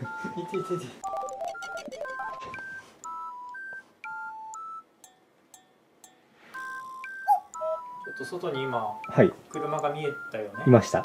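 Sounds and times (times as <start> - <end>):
electronic beep-like melody: 0.0 - 4.9, 6.6 - 11.0.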